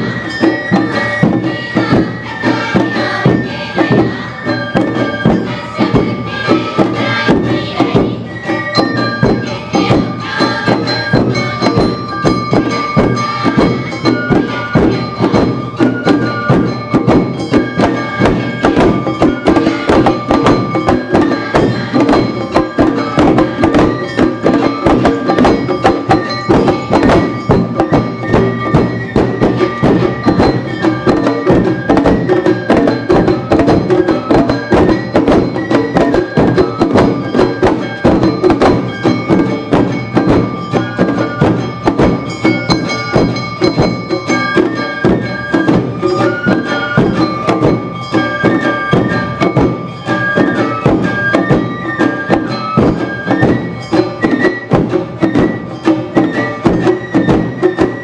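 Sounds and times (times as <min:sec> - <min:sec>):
drums: 0:00.0 - 0:58.0
flute melody: 0:00.0 - 0:58.0
shamisen: 0:00.0 - 0:58.0
small gong: 0:08.6 - 0:58.0.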